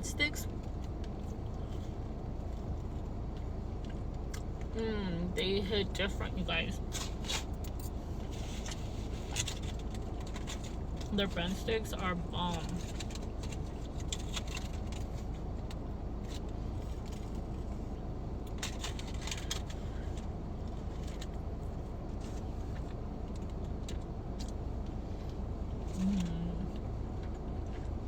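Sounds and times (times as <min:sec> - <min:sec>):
car interior hum: 0:00.0 - 0:28.0.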